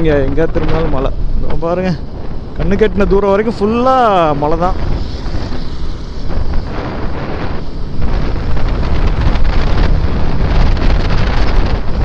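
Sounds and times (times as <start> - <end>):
motorcycle engine running: 0.0 - 12.0
road noise: 0.0 - 12.0
wind buffeting microphone: 0.0 - 12.0.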